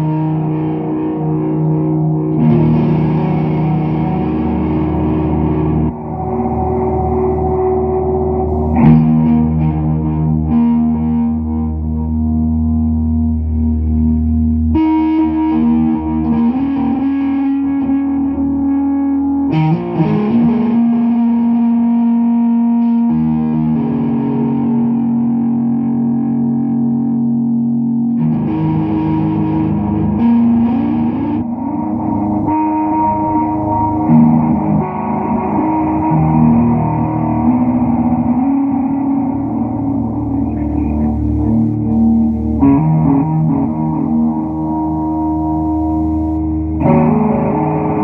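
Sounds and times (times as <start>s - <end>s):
distorted electric guitar drone: 0.0s - 48.0s.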